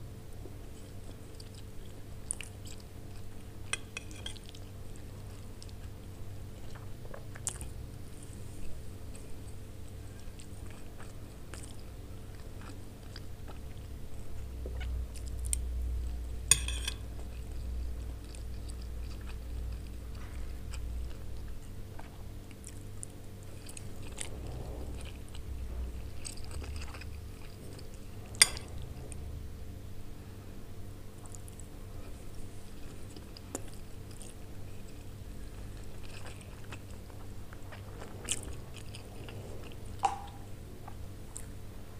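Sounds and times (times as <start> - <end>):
low steady hum: 0.0 - 41.9
chewing crunchy food: 0.4 - 29.3, 31.1 - 41.7.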